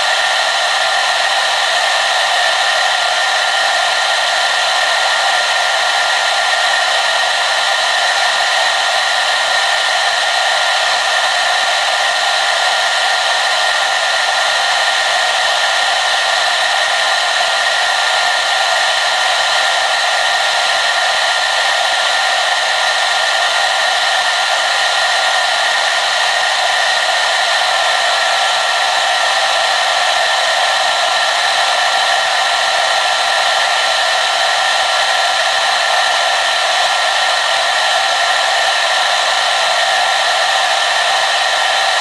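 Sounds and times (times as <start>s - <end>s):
hair dryer blowing: 0.0s - 42.0s.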